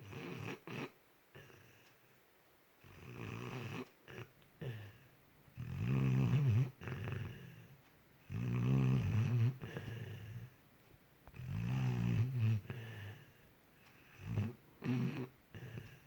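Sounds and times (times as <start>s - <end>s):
dog snoring: 0.0s - 1.8s, 2.8s - 10.6s, 11.3s - 13.4s, 14.0s - 16.0s.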